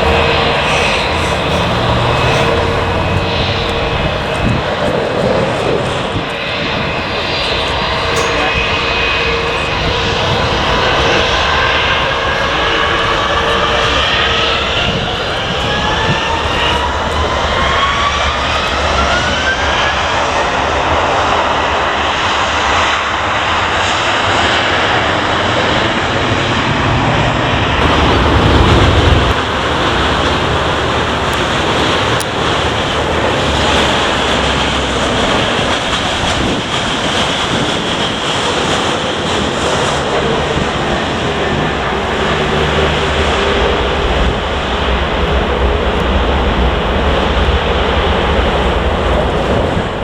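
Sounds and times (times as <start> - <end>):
jet engines spooling up and roaring: 0.0 - 50.0.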